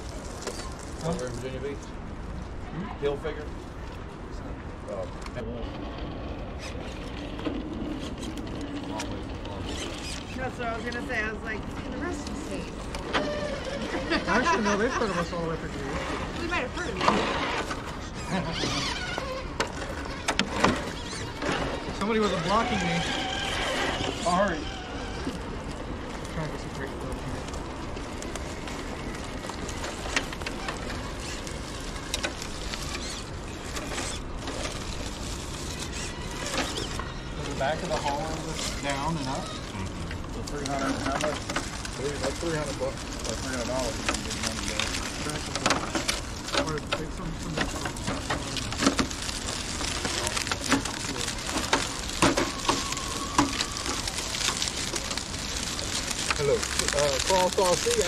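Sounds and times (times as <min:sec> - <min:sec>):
rc truck crunching through leaves: 0:00.0 - 0:03.8, 0:05.0 - 0:58.0
electric motor and gears whirring: 0:04.9 - 0:58.0
tyres scraping on stone: 0:05.6 - 0:58.0.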